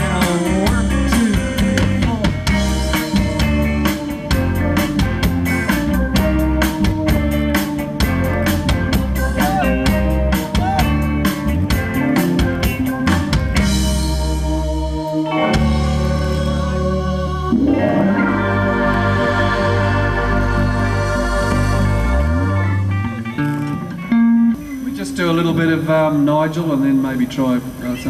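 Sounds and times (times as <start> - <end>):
drum kit: 0.0 - 26.8
electric guitar: 0.0 - 28.0
sustained keyboard chords: 0.0 - 28.0.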